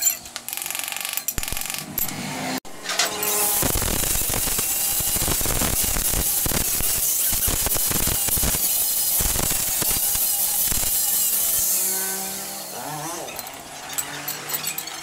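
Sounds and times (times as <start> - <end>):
angle grinder cutting steel: 1.2 - 15.0.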